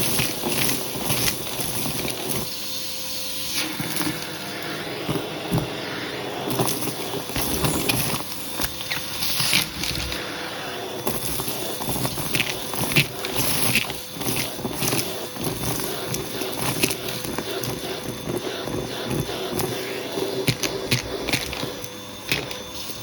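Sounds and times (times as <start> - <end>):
vacuum cleaner motor whine: 0.0 - 23.0
vacuum tool scratching over rug: 0.0 - 23.0.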